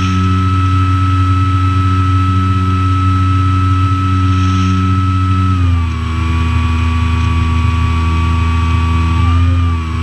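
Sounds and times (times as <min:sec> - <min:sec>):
light aircraft engine droning: 0:00.0 - 0:10.0.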